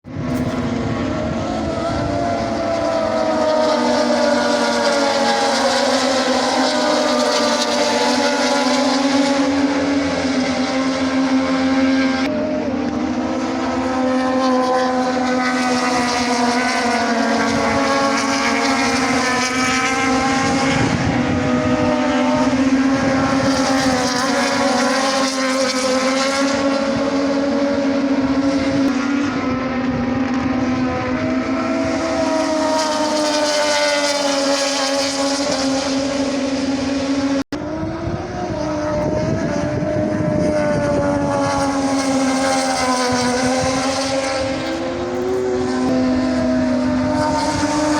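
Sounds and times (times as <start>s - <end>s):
engine running at high revs: 0.0s - 47.9s.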